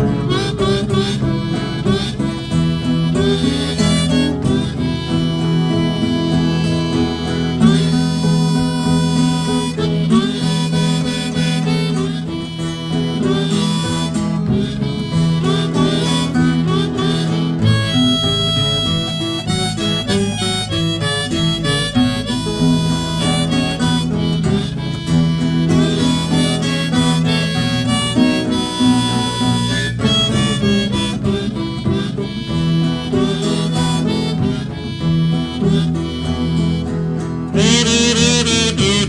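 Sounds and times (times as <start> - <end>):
acoustic guitar accompaniment: 0.0 - 39.0
blues harmonica playing: 0.0 - 39.0.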